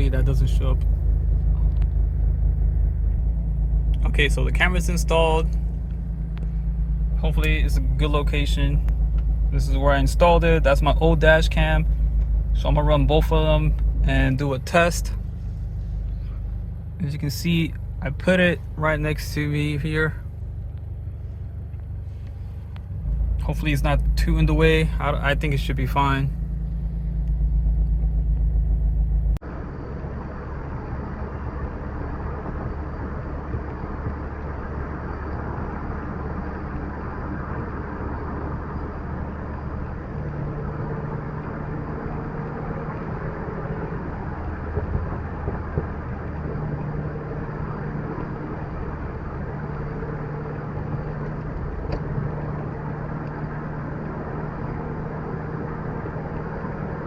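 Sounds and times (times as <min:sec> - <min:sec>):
car engine and road noise: 0:00.0 - 0:57.0
deep rumble cutting off: 0:00.0 - 0:57.0.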